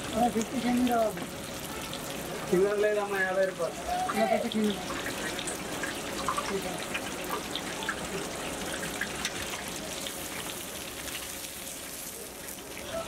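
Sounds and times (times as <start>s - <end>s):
oil sizzling with popping: 0.0s - 13.0s.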